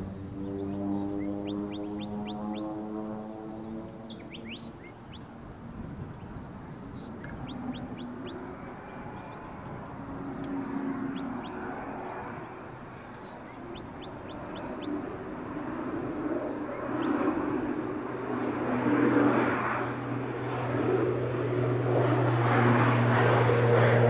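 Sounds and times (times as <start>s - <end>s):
birds chirping: 0.0s - 20.2s
distant plane engine droning: 0.0s - 24.0s.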